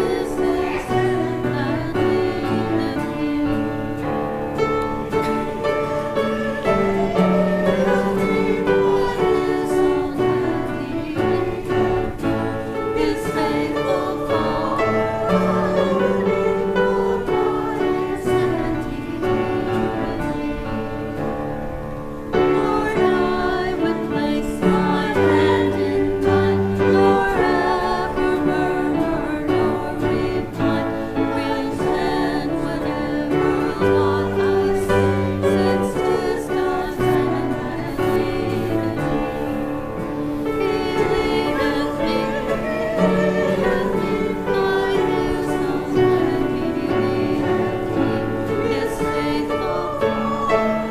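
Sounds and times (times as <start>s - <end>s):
congregation singing a hymn: 0.0s - 50.9s.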